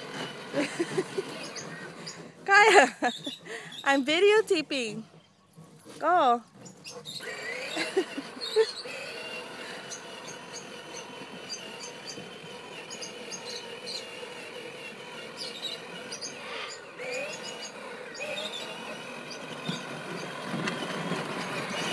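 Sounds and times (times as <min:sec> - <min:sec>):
toy car electric motor whining: 0:00.0 - 0:21.9.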